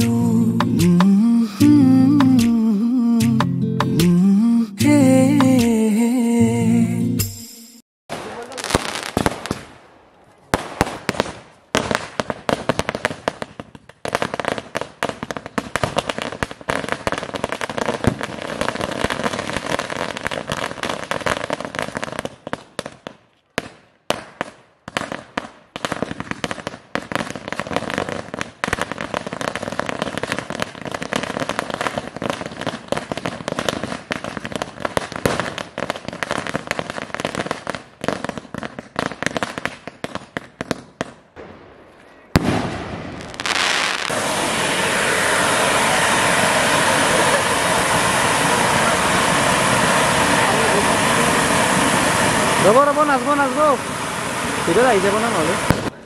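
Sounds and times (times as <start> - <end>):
firecrackers popping: 8.1 - 56.0.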